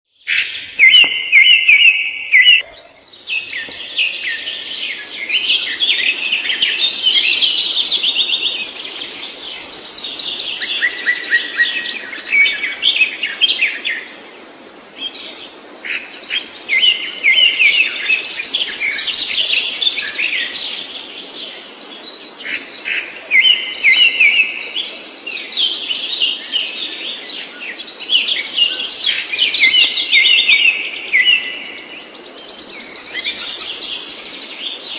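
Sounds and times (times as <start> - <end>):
songbird chirping and trilling: 0.1 - 14.1, 15.0 - 34.9.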